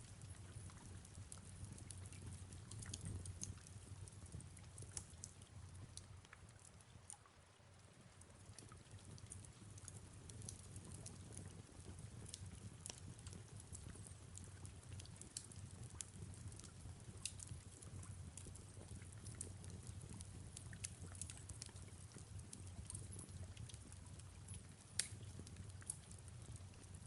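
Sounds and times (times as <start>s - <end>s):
fireplace crackling and popping: 0.0s - 27.0s
soft hiss of rain: 0.0s - 27.0s.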